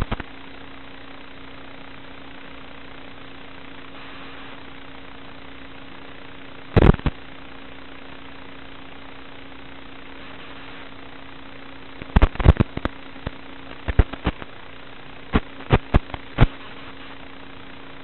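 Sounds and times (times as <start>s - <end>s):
low hum: 0.0s - 18.0s
static hiss: 0.0s - 18.0s.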